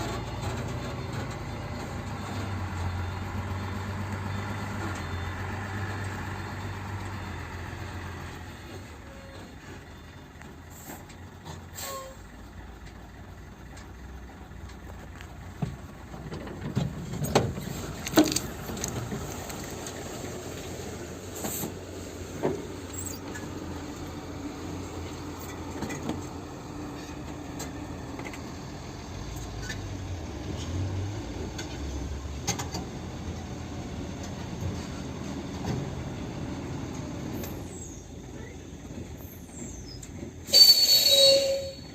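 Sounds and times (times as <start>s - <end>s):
truck knocks and clanks: 0.0s - 40.5s
diesel truck engine running low: 0.0s - 41.9s.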